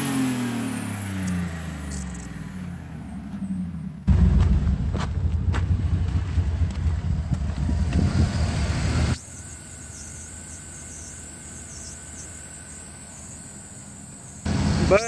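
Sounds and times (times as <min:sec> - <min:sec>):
pickup engine idling: 0:00.8 - 0:15.0.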